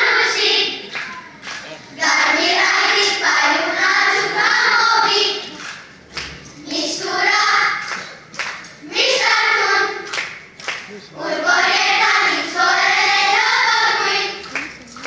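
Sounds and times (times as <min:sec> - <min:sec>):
children's choir singing: 0:00.0 - 0:10.4, 0:11.0 - 0:15.0.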